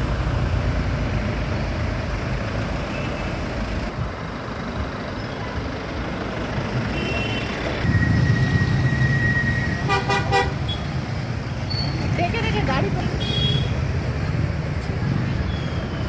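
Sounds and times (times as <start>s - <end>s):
low rumble of traffic engines: 0.0s - 16.0s.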